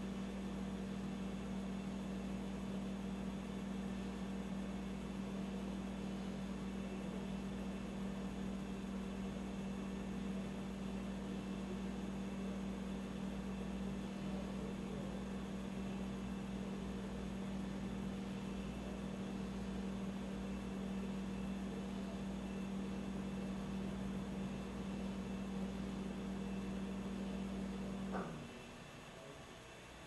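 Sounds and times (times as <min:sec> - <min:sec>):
electrical hum under hiss: 0:00.0 - 0:30.0.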